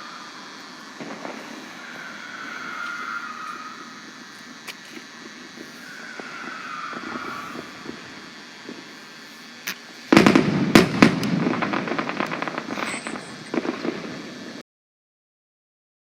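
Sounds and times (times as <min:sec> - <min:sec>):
fireworks bangs and crackling: 0:00.0 - 0:14.6.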